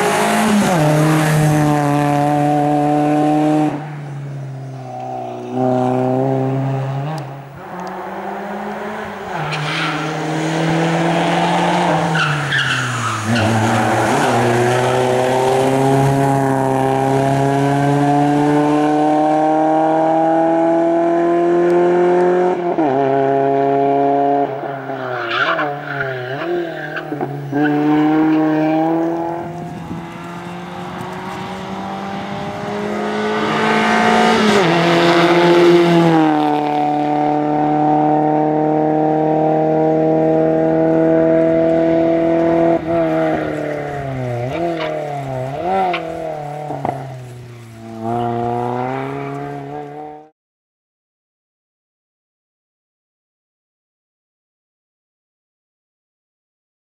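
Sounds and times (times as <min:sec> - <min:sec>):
car engine revving hard: 0:00.0 - 0:03.8, 0:05.1 - 0:24.6, 0:27.0 - 0:47.2, 0:47.8 - 0:50.3.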